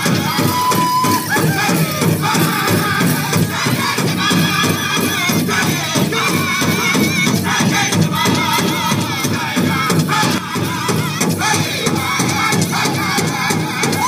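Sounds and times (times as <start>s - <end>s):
big drum fast beat: 0.0s - 14.0s
high wavering voices singing: 0.0s - 14.0s.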